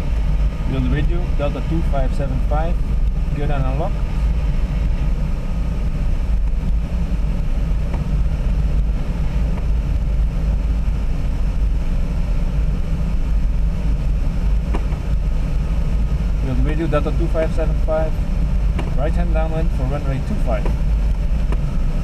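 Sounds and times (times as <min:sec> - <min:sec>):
wind noise in glider cockpit: 0:00.0 - 0:22.0.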